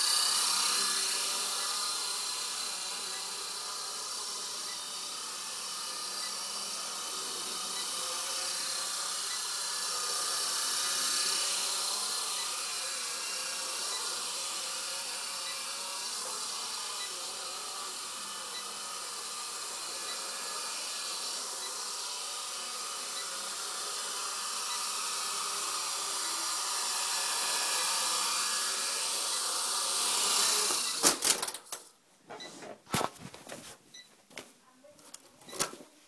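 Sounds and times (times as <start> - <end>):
toy helicopter motor whine: 0.0 - 31.9.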